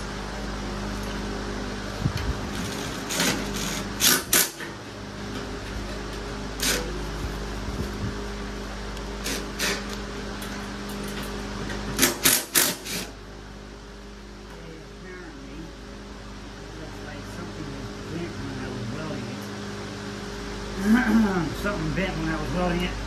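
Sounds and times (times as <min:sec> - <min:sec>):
electric fan humming: 0:00.0 - 0:23.0.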